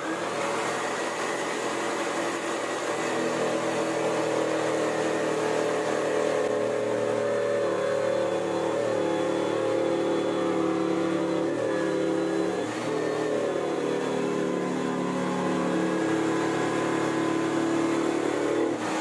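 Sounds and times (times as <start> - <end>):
bandsaw cutting plywood: 0.0 - 19.0.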